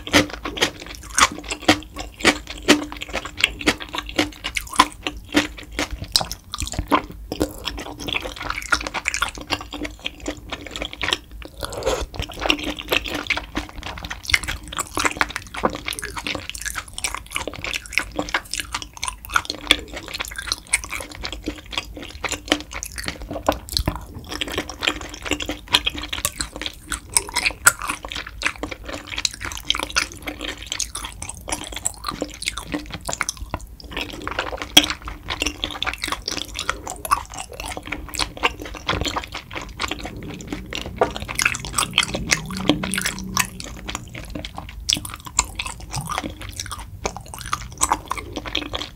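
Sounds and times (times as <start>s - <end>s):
person chewing: 0.0s - 48.9s.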